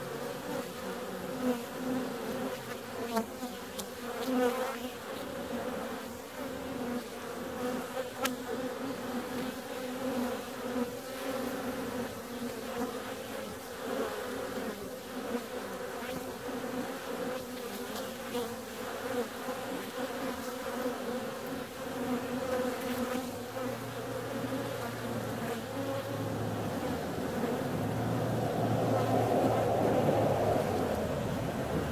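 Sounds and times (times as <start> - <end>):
bees buzzing: 0.0 - 31.9.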